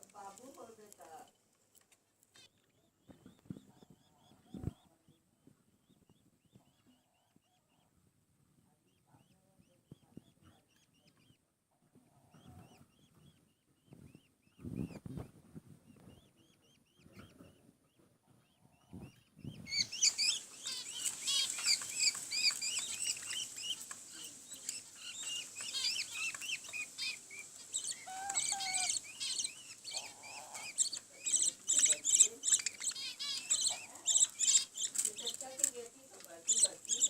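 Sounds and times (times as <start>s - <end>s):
chicks cheeping: 2.4s - 8.0s, 8.7s - 37.0s.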